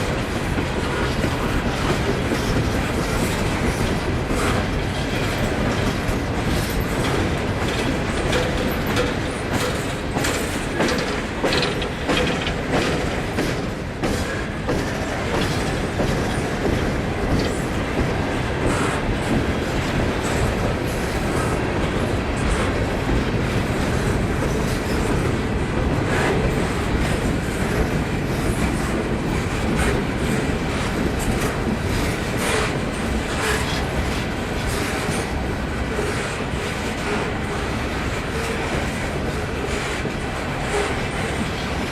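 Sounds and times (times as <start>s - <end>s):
train wheels clattering over rail joints: 0.0s - 41.9s.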